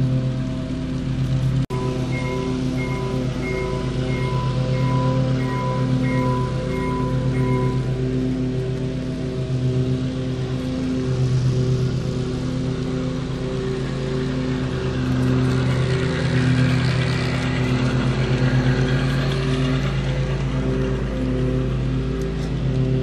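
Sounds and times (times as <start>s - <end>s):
model train engine drone: 0.0s - 23.0s
wheels clattering on track: 0.0s - 23.0s.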